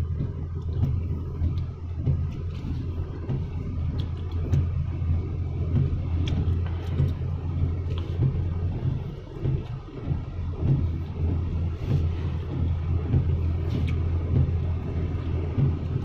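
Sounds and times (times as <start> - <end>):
road rumble: 0.0 - 16.0
vehicle engine running: 0.0 - 16.0.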